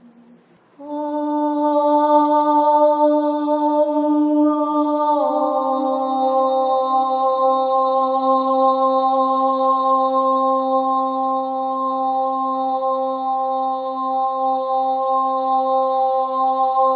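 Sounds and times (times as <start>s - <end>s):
voice chanting a long held tone: 0.0s - 16.9s.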